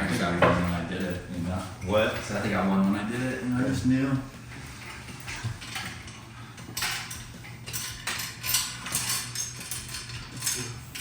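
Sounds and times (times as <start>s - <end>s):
metal bike parts and tools clinking: 0.0s - 11.0s.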